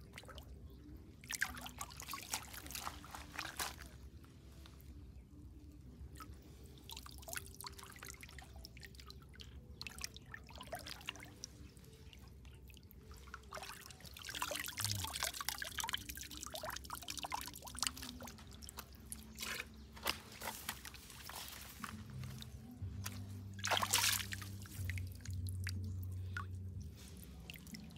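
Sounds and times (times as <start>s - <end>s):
water dripping and trickling: 0.0s - 4.8s, 6.0s - 27.9s
hands stirring shallow water: 1.2s - 4.8s, 6.2s - 27.9s.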